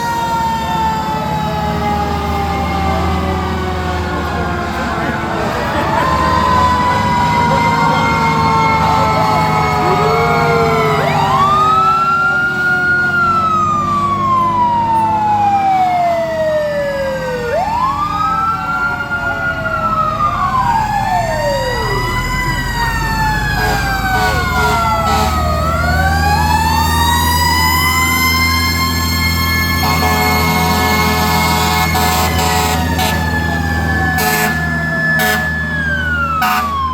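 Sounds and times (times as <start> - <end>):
fire truck sirens wailing: 0.0 - 36.9
truck engines rumbling: 0.0 - 36.9.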